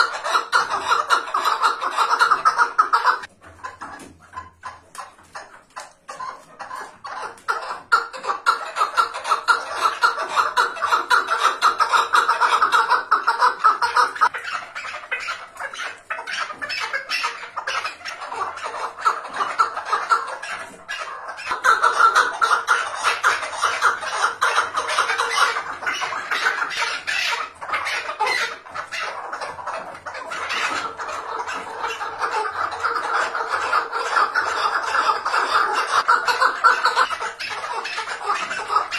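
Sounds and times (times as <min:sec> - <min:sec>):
partridge chuckling calls: 0:00.0 - 0:38.9.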